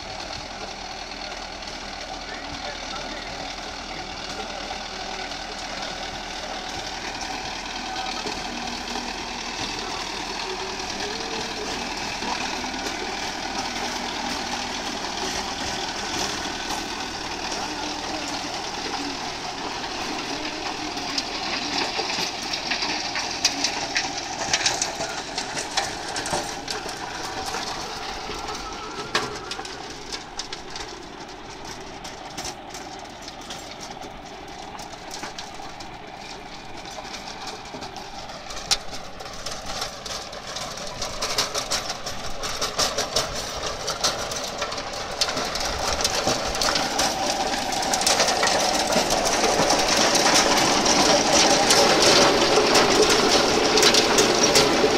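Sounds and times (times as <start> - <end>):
rotary tiller churning soil: 0.0 - 54.9
tractor diesel engine running: 0.0 - 54.9.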